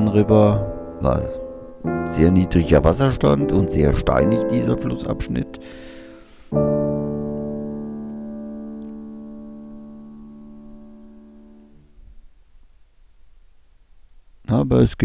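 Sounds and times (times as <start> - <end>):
sustained piano chord: 0.0 - 12.0.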